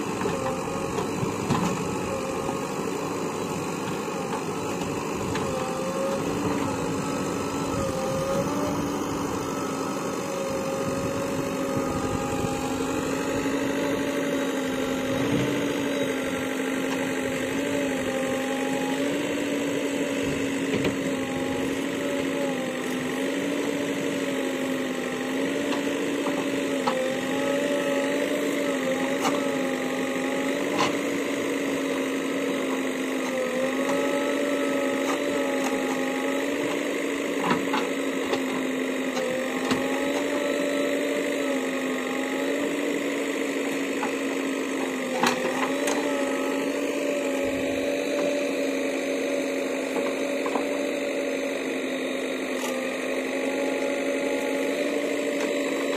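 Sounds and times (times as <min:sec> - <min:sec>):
backhoe engine whining: 0:00.0 - 0:55.9.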